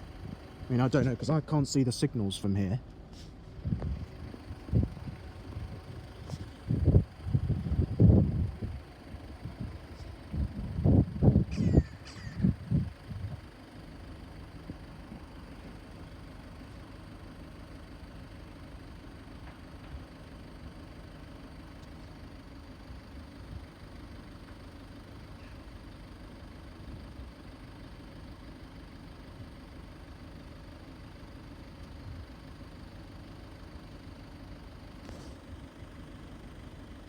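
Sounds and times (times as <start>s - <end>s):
vehicle engine idling: 0.0s - 37.0s.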